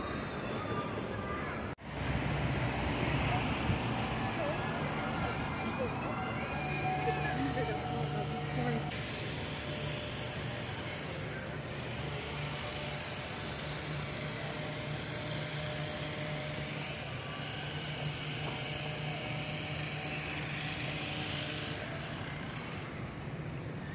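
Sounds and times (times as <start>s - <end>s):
engine drone with hiss: 1.3s - 23.9s.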